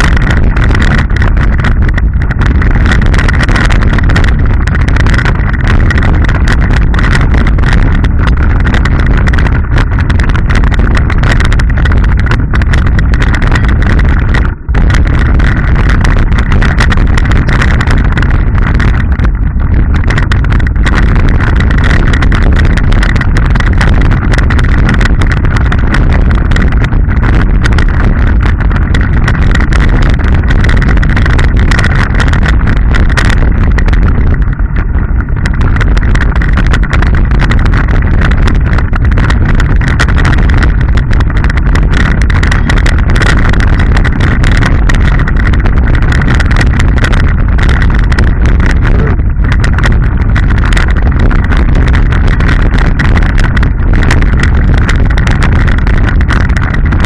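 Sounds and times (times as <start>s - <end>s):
bike tyres on stony trail: 0.0s - 57.0s
clatter of bike over bumps: 0.0s - 57.0s
wind on microphone: 0.0s - 57.0s.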